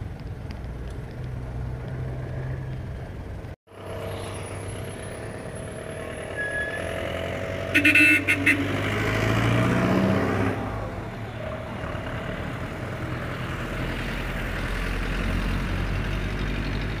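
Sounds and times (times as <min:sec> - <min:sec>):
minibus engine accelerating: 0:01.4 - 0:17.0.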